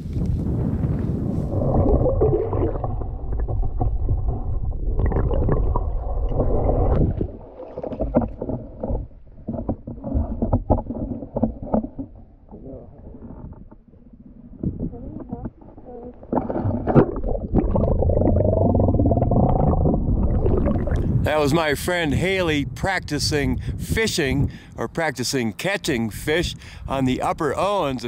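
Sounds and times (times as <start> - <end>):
wind rumbling on microphone: 0.0 - 24.9.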